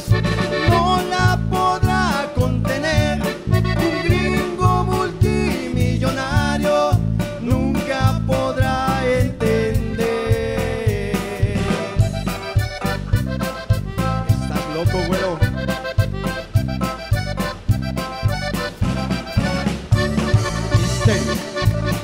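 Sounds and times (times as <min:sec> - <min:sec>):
button accordion melody: 0:00.0 - 0:22.0
drums dance beat: 0:00.0 - 0:22.0
electric bass: 0:00.0 - 0:22.0
guitar: 0:00.0 - 0:22.0.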